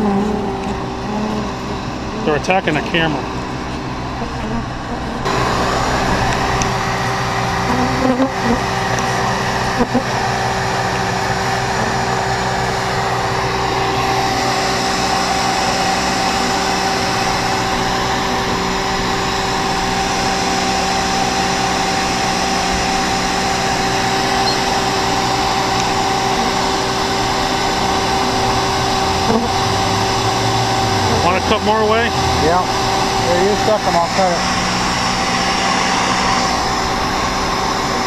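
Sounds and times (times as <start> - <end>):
vacuum motor whining: 0.0 - 38.0.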